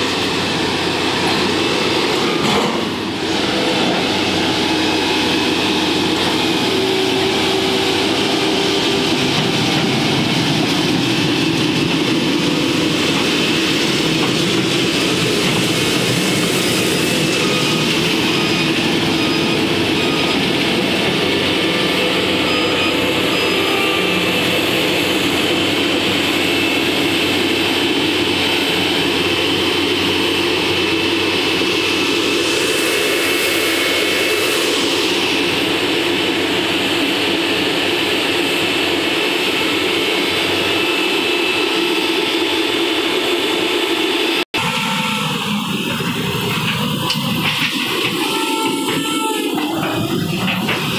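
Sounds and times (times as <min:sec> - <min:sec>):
machinery engine drone: 0:00.0 - 0:50.9.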